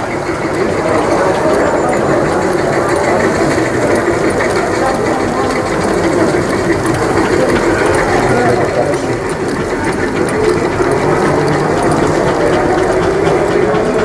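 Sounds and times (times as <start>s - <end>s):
faint irregular ticking: 0.0s - 14.0s
mechanical running noise: 0.0s - 14.0s.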